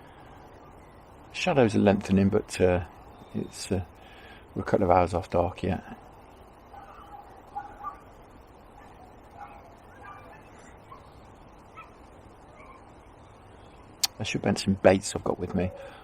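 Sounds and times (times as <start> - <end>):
faint birds calling: 0.0 - 16.0
faint steady hiss: 0.0 - 16.0.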